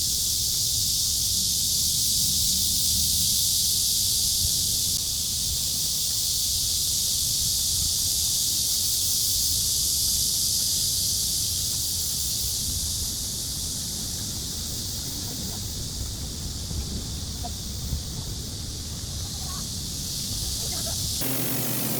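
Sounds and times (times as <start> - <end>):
cicadas droning: 0.0 - 21.9.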